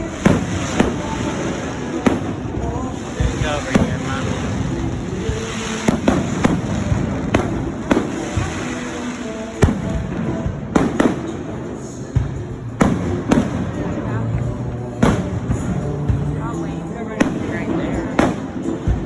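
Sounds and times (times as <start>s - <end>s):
fireworks bangs: 0.0s - 19.0s
fireworks crackle and rumble: 0.0s - 19.0s.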